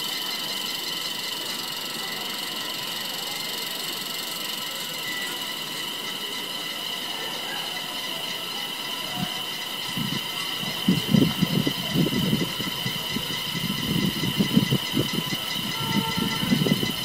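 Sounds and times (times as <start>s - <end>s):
cicadas chorus: 0.0s - 17.0s.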